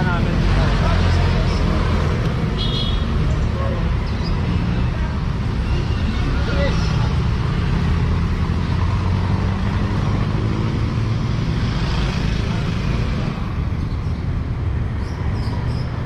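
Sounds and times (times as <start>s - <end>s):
cars and motorcycles passing: 0.0s - 16.0s.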